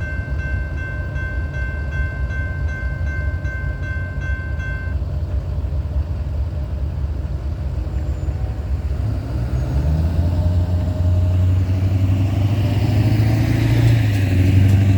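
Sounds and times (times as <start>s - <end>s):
heavy engine rumbling: 0.0s - 14.9s.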